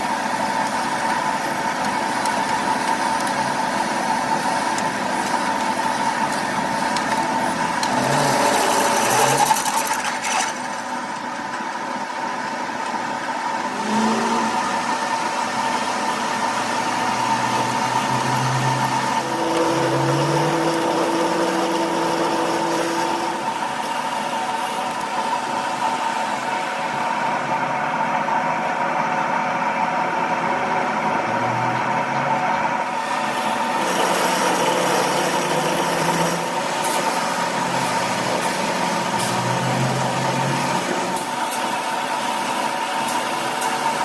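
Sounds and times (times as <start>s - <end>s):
machine humming and whining: 0.0s - 44.0s.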